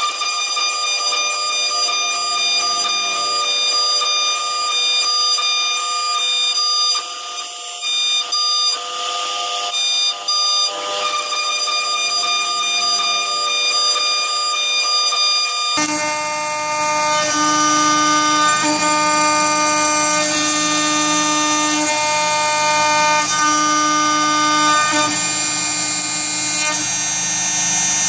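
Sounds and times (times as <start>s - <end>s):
router spindle cutting metal whine: 0.0s - 28.0s.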